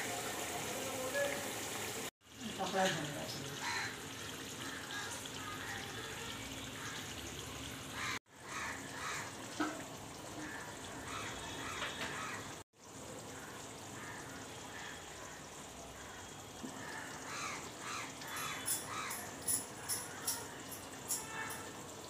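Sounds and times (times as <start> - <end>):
curry boiling in a pot: 0.0 - 22.0.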